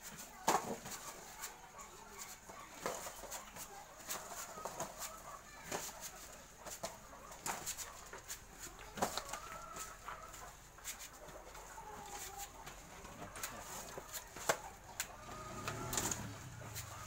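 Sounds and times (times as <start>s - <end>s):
faint chicken clucking: 0.0s - 17.0s.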